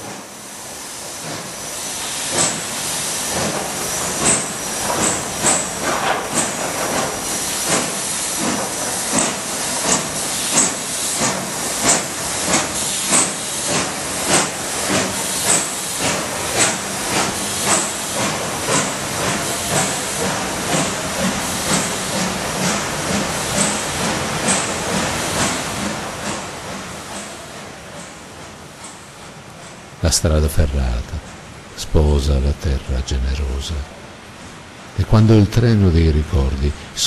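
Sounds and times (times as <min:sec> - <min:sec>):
steam locomotive chuffing: 0:00.0 - 0:33.8
continuous hiss of steam: 0:00.0 - 0:37.0.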